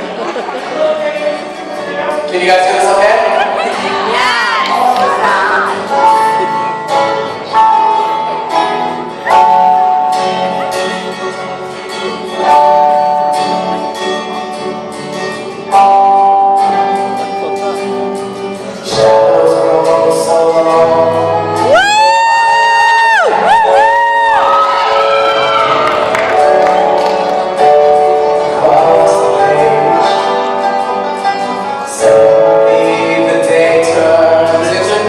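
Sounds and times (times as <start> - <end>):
guitar chords: 0.0 - 35.0
live band playing: 0.0 - 35.0.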